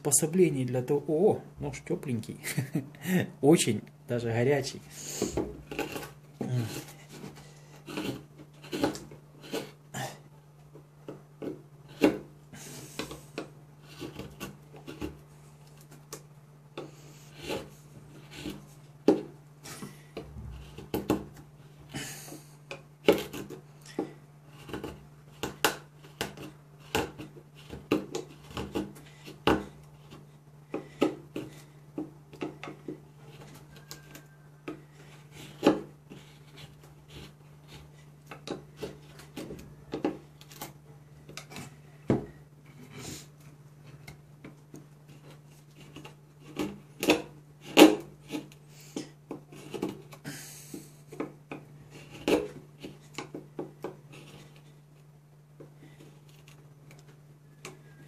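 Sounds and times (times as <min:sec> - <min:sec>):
knife carving wood: 0:05.1 - 0:10.0, 0:10.7 - 0:58.0.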